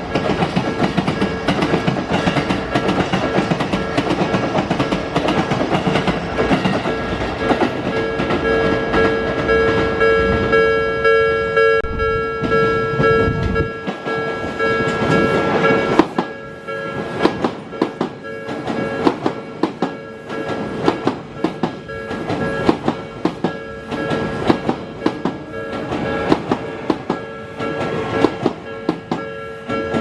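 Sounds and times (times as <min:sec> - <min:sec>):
train wheels clacking over rail joints: 0:00.0 - 0:10.1, 0:12.4 - 0:30.0.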